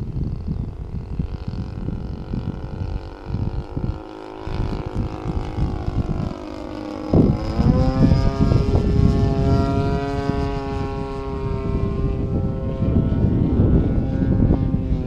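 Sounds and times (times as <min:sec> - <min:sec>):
model airplane engine running: 0:00.0 - 0:15.0
wind buffeting on microphone: 0:00.0 - 0:15.0.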